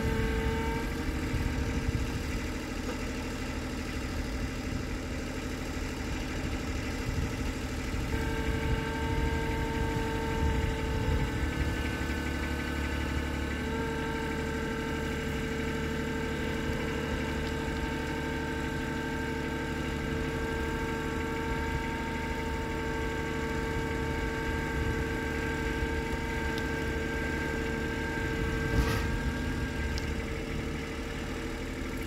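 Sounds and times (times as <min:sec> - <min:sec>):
tractor engine whining: 0:00.0 - 0:32.0.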